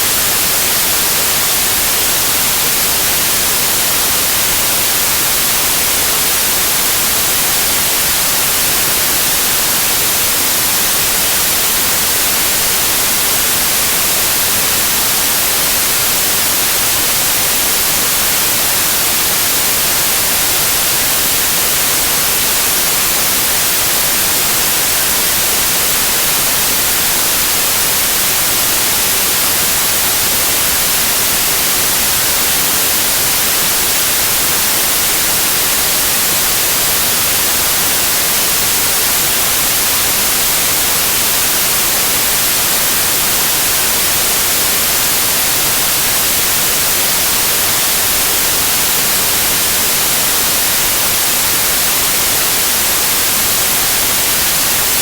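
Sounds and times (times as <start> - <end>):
static white noise hiss: 0.0 - 55.0.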